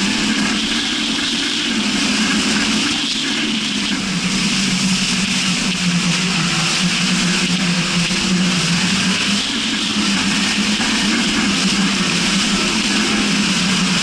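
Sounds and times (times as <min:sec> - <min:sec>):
jet ski engine drone: 0:00.0 - 0:14.0.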